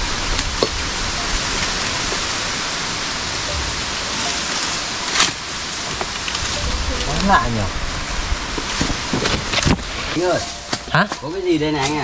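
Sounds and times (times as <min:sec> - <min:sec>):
rain on foliage: 0:00.0 - 0:12.0.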